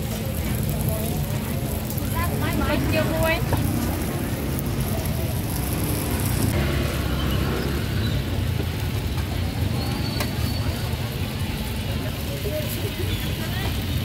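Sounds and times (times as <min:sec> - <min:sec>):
faint voices: 0:00.0 - 0:06.6, 0:08.2 - 0:14.0.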